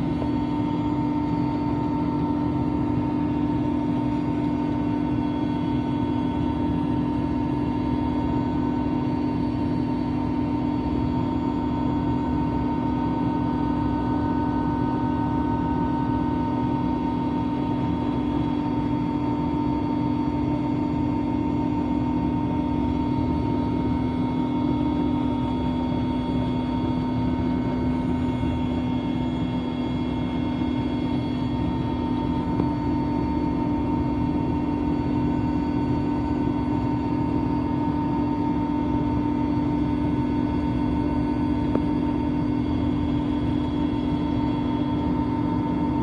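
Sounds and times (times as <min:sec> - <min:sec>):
helicopter engine and rotor drone: 0:00.0 - 0:46.0.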